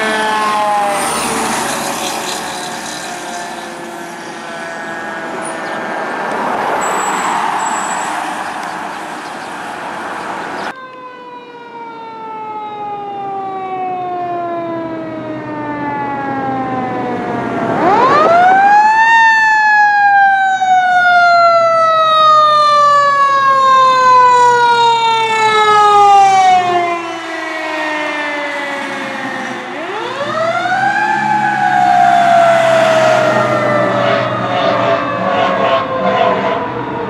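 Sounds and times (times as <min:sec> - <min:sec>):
fire engine siren winding: 0:00.0 - 0:09.0, 0:10.6 - 0:37.0.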